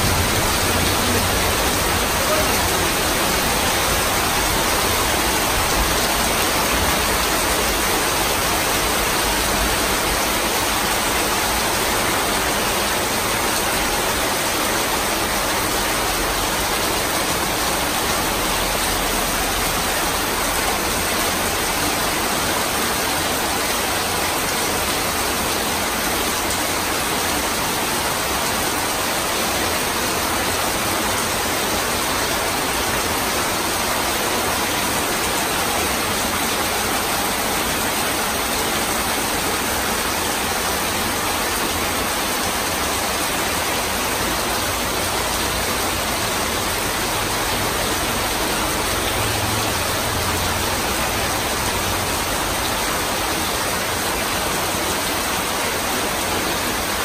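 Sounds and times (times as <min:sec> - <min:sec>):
heavy rain on metal roofs: 0:00.0 - 0:57.0.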